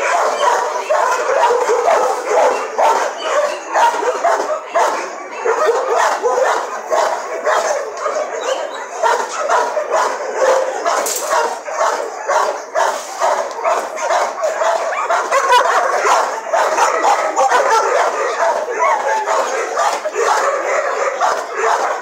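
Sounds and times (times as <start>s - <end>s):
dogs barking and yipping: 0.0s - 22.0s.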